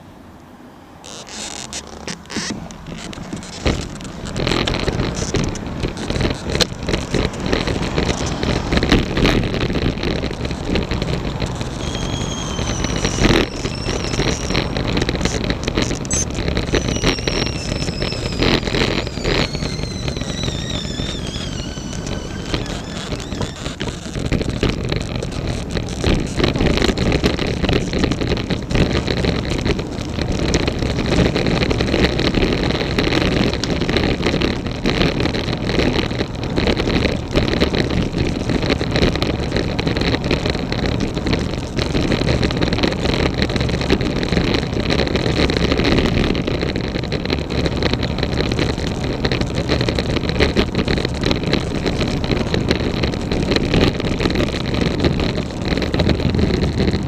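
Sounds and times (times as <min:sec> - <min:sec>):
wind noise on microphone: 0:00.9 - 0:57.0
bike clicking and rattling: 0:01.0 - 0:57.0.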